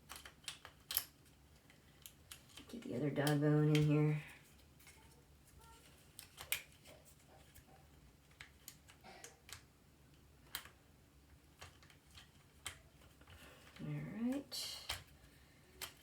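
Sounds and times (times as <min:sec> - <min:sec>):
small plastic parts clicking: 0:00.0 - 0:03.9, 0:04.8 - 0:07.6, 0:08.2 - 0:13.8, 0:14.8 - 0:16.0.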